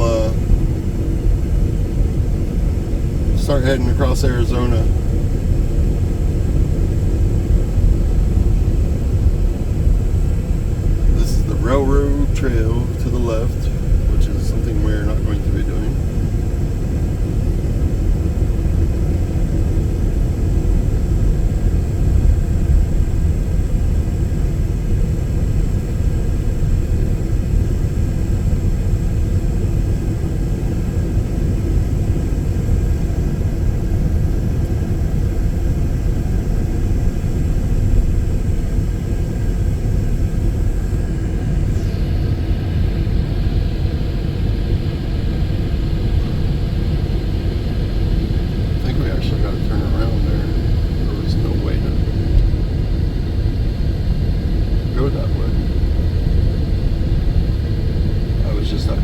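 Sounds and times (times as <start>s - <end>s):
van engine and road noise: 0.0s - 59.0s.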